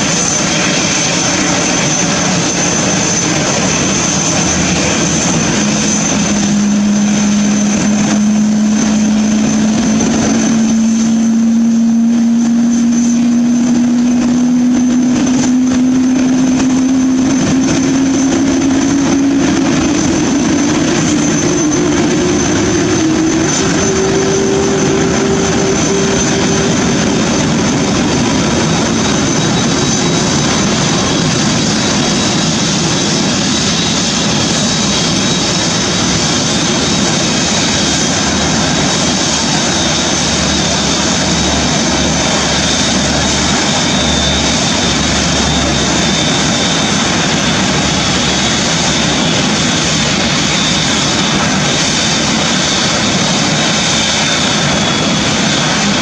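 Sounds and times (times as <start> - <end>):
jet engine roar: 0.0 - 56.0
jet engine whine rising in pitch: 0.0 - 56.0.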